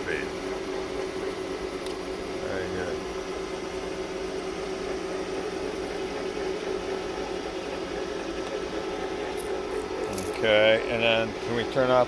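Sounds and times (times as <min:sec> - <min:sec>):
grinding machine humming: 0:00.0 - 0:12.0.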